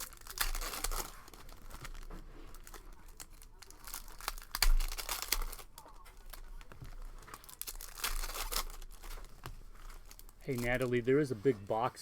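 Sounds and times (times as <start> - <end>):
packaging crinkling and tearing: 0.0 - 11.1.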